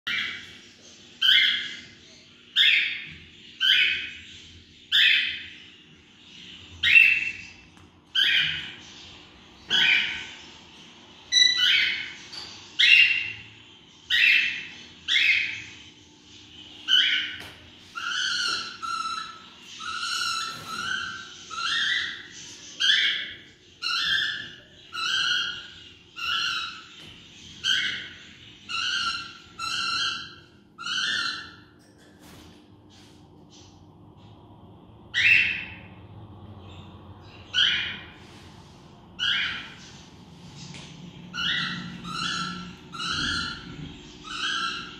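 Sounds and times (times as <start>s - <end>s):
parrot calling: 0.1s - 15.9s, 16.5s - 31.8s, 35.1s - 36.0s, 36.6s - 38.4s, 39.1s - 44.9s.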